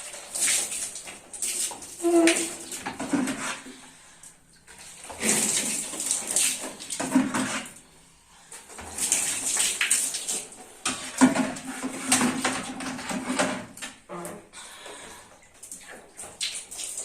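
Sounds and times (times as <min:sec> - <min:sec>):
water running and splashing: 0:00.0 - 0:07.9, 0:08.6 - 0:13.6, 0:14.8 - 0:17.0.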